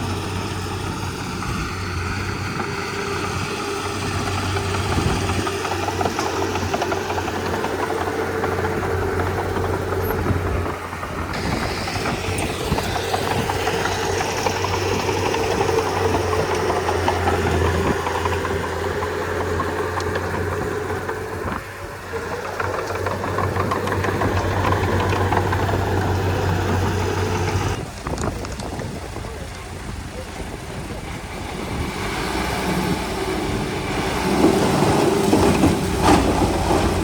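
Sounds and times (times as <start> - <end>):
bulldozer diesel engine running: 0.0 - 37.0.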